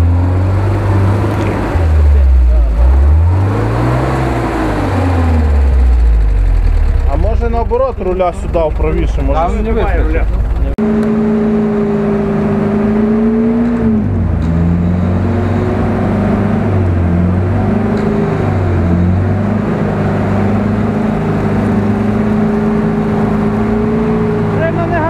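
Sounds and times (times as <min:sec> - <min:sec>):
engine running under load: 0:00.0 - 0:25.0.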